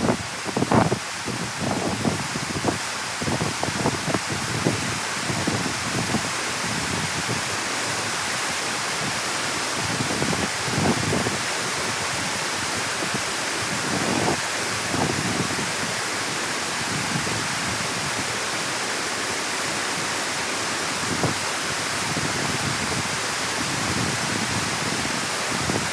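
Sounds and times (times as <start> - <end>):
water rushing through dam: 0.0 - 25.9.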